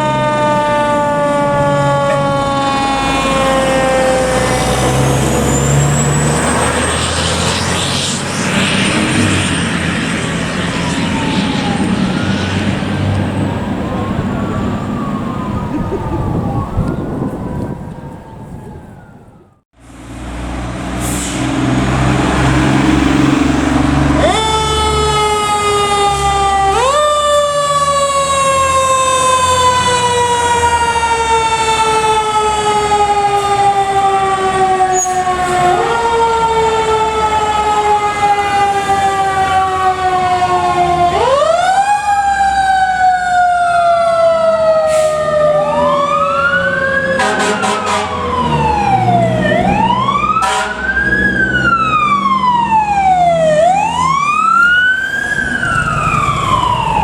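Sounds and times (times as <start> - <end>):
second siren with quick sweeps: 0.0 - 19.6, 22.3 - 57.0
fire truck engine rumbling: 0.0 - 57.0
fire truck siren wailing: 0.0 - 57.0.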